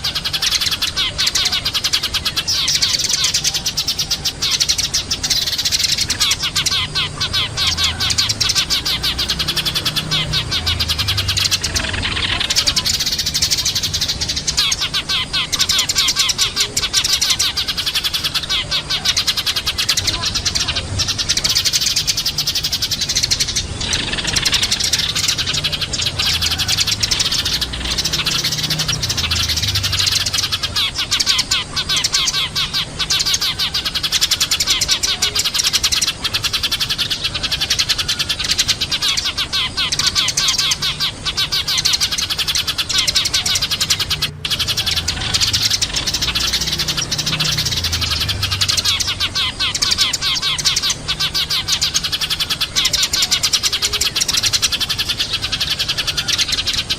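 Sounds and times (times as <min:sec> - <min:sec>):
sparrows chirping: 0:00.0 - 0:56.9.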